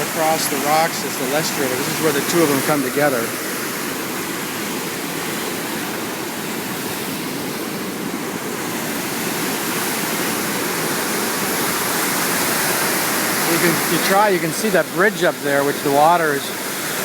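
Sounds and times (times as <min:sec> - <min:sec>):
river water rushing and churning: 0:00.0 - 0:17.0.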